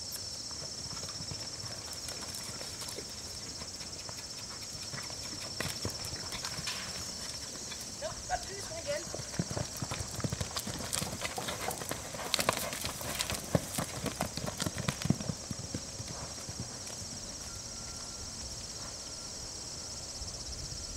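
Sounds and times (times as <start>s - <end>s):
horse hoofbeats on sand: 0.6s - 17.7s.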